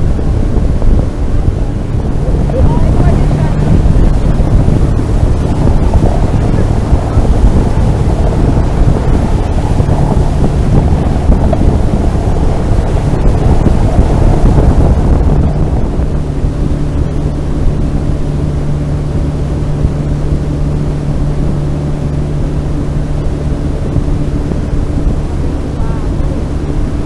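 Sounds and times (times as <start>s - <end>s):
outboard motor running: 0.0s - 27.0s
water rushing along hull: 0.0s - 27.0s
wind buffeting microphone: 0.0s - 27.0s.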